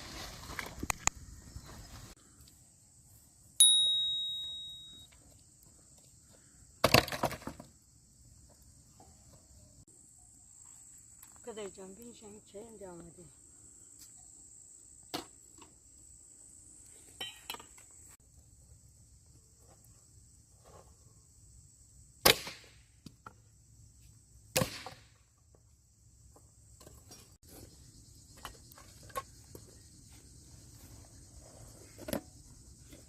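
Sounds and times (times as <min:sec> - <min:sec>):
crickets chirring: 0:00.0 - 0:33.0.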